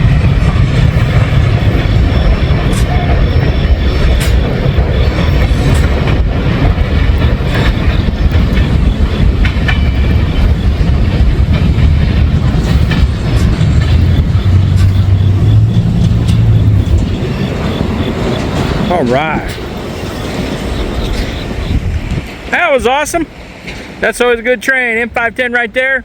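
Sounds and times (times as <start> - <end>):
freight train rumble: 0.0 - 26.0
wheels clicking over rail joints: 0.0 - 26.0.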